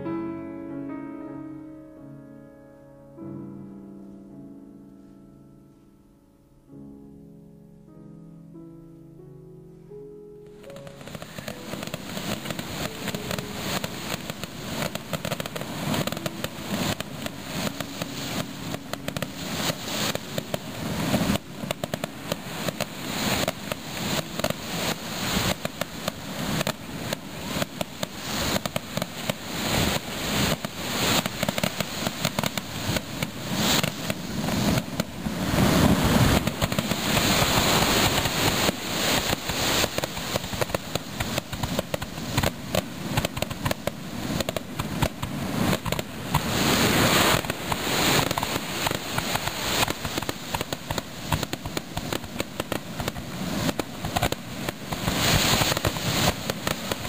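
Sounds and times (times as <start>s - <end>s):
fireworks bangs and crackling: 10.6s - 57.0s.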